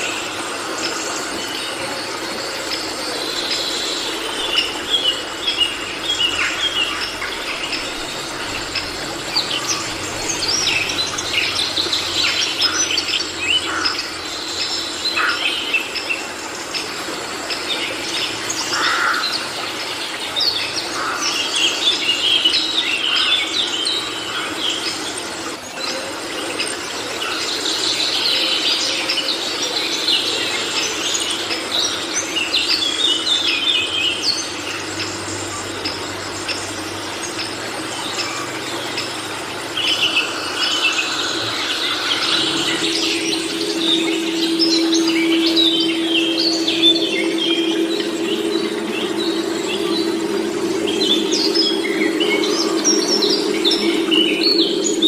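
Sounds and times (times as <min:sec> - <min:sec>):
birds chirping and calling: 0:00.0 - 0:55.0
steady background hiss: 0:00.0 - 0:55.0.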